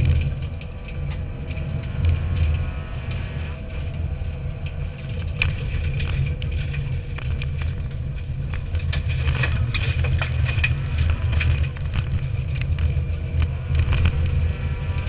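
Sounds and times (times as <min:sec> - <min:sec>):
rally car engine droning: 0:00.0 - 0:15.0
sharp clicks and knocks: 0:00.0 - 0:15.0.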